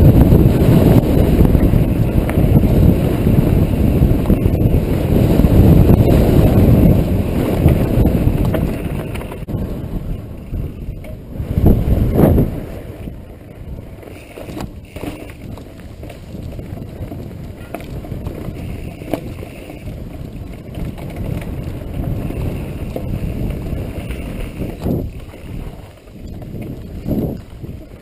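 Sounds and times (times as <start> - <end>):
bike knocks and rattles: 0.0 - 28.0
tyres rumbling on dirt: 0.0 - 28.0
wind buffeting microphone: 0.0 - 28.0.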